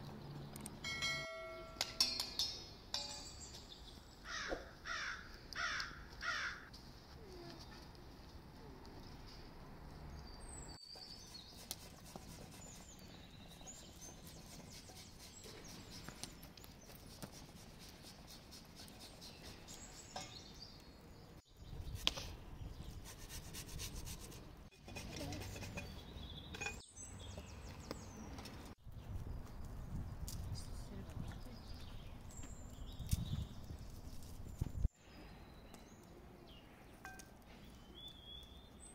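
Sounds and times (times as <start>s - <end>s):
faint outdoor ambience: 0.0s - 38.9s.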